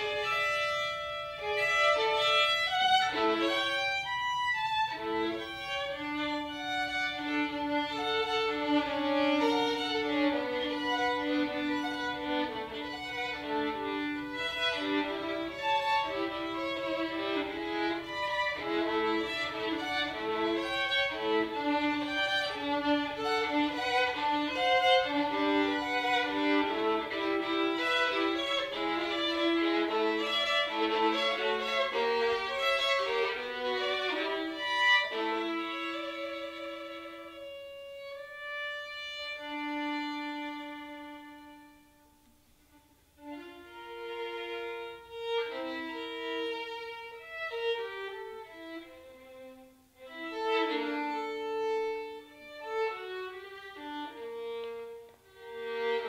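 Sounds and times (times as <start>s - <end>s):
solo violin playing: 0.0s - 56.0s.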